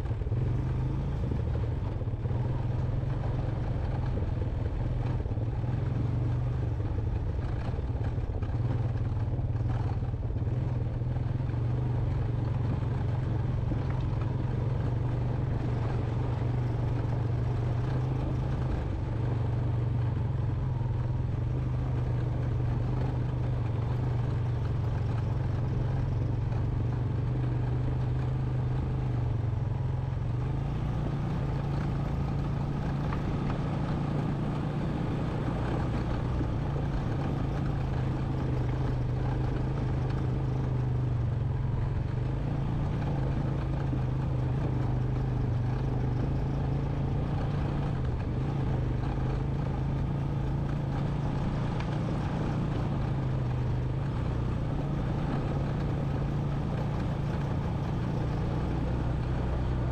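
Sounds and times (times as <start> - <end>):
atv engine running: 0.0 - 59.9
clatter over rocky trail: 0.0 - 59.9.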